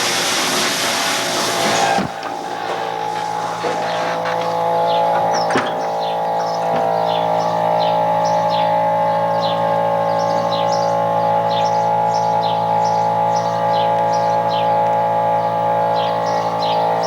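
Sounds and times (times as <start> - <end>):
barn machinery drone: 0.0 - 17.0
bird chirping: 3.1 - 17.0.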